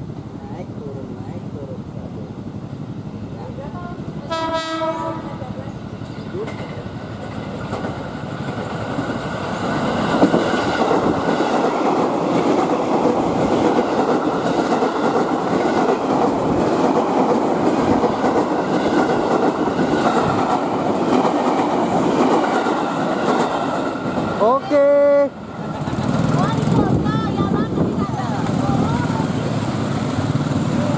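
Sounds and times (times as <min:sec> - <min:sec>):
electric train passing: 0:00.0 - 0:30.9.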